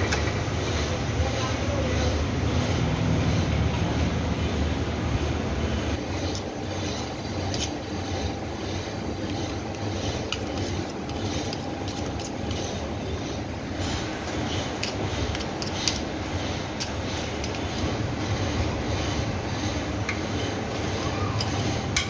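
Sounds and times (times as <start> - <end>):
milling machine rumble: 0.0 - 22.0.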